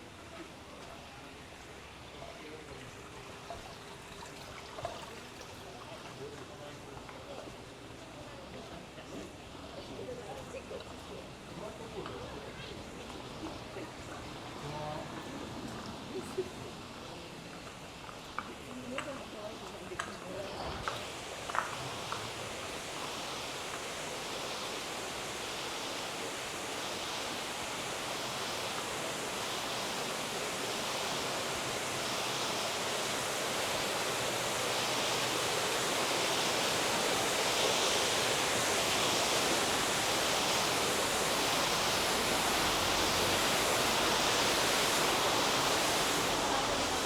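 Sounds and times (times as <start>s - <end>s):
flowing water rushing: 0.0s - 47.0s.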